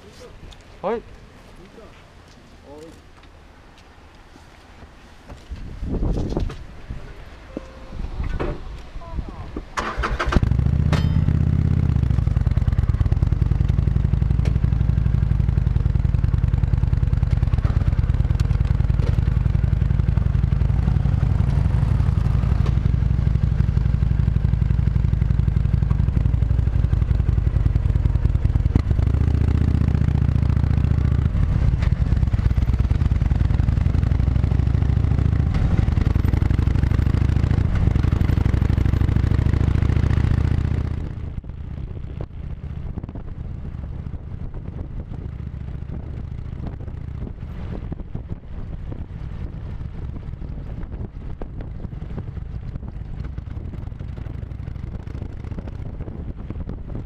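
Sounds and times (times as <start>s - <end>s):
motorcycle engine running: 9.8s - 57.0s.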